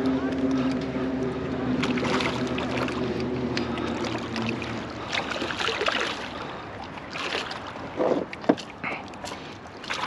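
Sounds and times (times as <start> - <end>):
steady low hum: 0.0 - 10.0
fish splashing at the surface: 1.8 - 10.0.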